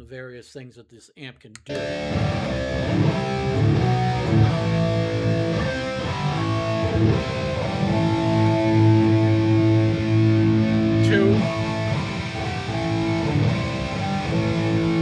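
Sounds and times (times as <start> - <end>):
electric guitar chords: 1.7 - 15.0.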